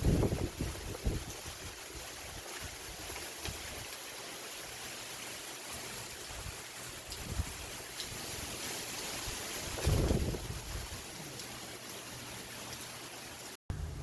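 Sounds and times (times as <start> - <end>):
wind-driven rain hiss: 0.0 - 14.0.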